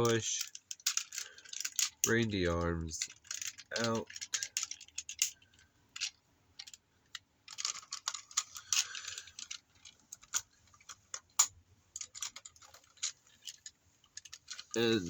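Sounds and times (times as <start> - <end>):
plastic toy clicks and rattles: 0.0 - 15.0.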